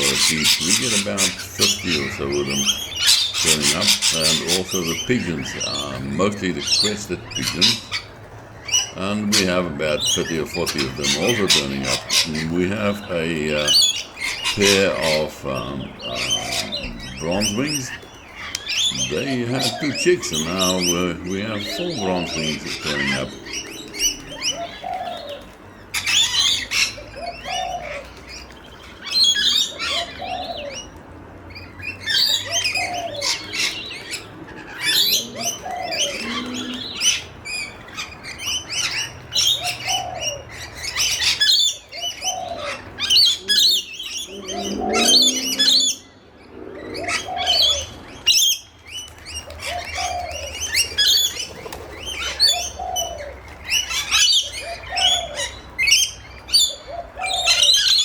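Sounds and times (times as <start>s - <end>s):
pigeon cooing: 0.0s - 31.0s, 32.0s - 58.0s
parrots screeching and chattering: 0.0s - 58.0s.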